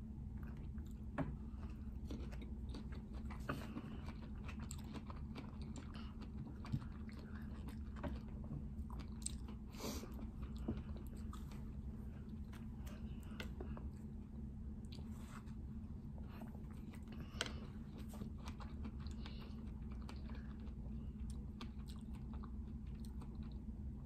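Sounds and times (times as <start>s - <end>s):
wet chewing with crunches: 0.2s - 24.0s.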